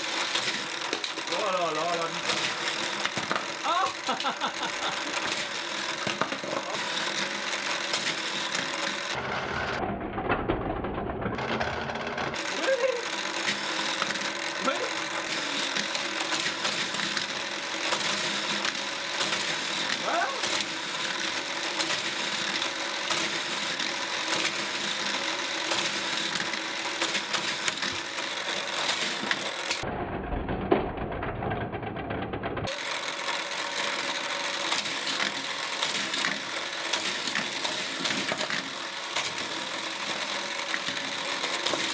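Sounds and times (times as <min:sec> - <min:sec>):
toy motor whirring with plastic clicks: 0:00.0 - 0:09.2, 0:11.4 - 0:29.9, 0:32.6 - 0:41.9.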